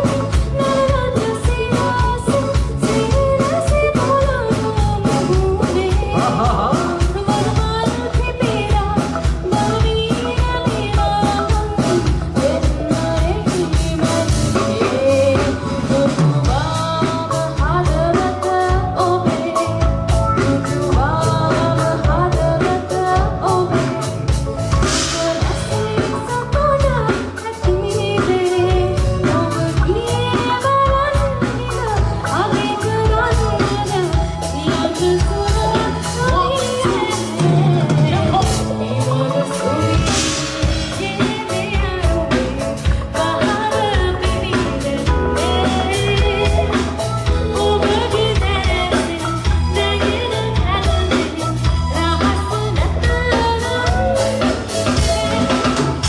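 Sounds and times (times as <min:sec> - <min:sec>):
drum kit beat: 0:00.0 - 0:56.0
live band playing: 0:00.0 - 0:56.0
woman singing: 0:00.0 - 0:56.0.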